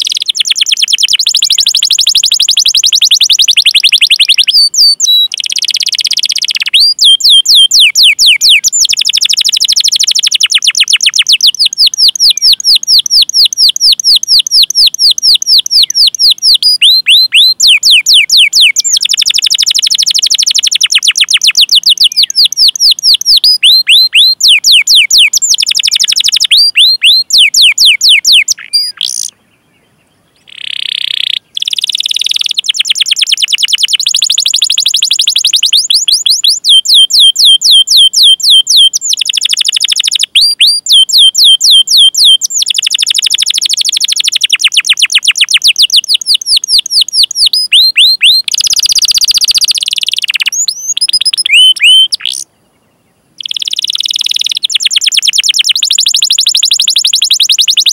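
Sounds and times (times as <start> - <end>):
canary singing: 0.0 - 57.9.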